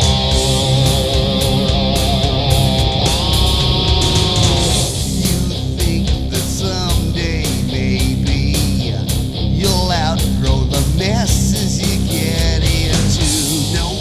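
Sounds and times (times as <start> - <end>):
electric guitar lead notes: 0.0 - 14.0
rock song: 0.0 - 14.0.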